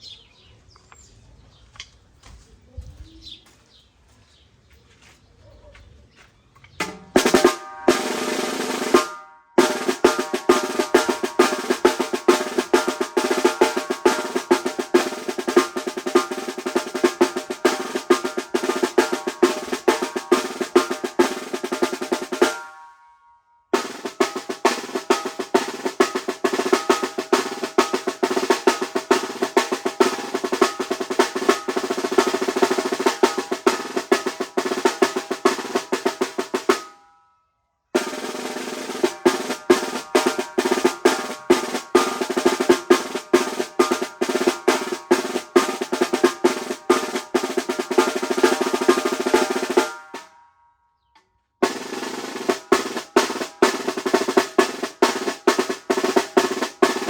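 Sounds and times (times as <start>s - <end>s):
snare drum rolls: 6.8s - 22.9s, 23.8s - 36.9s, 38.0s - 50.3s, 51.6s - 57.0s.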